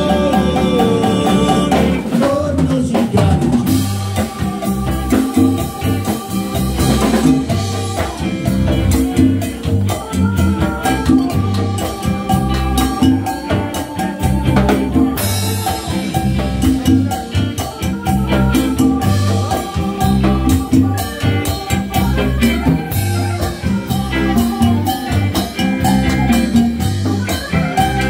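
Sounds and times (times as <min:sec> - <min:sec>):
drum kit and hand percussion: 0:00.0 - 0:28.0
latin rock band playing: 0:00.0 - 0:28.0.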